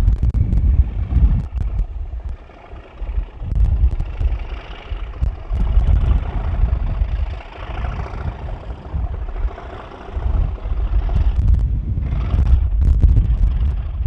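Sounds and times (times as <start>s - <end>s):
diesel locomotive engine working: 0.0s - 14.0s
wind buffeting microphone: 0.0s - 14.0s.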